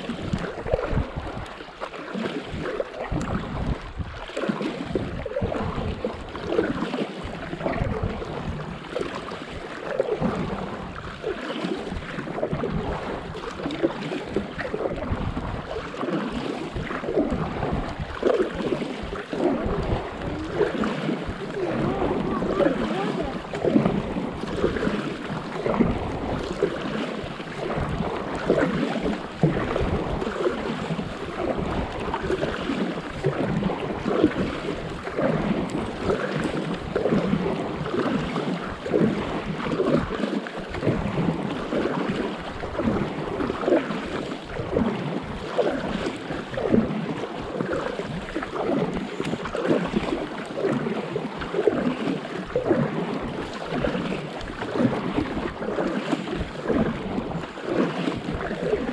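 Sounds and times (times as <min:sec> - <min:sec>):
paddle dipping through water: 0:00.0 - 0:58.9
water splashing and lapping: 0:00.0 - 0:58.9
wind rumbling on microphone: 0:00.0 - 0:58.9.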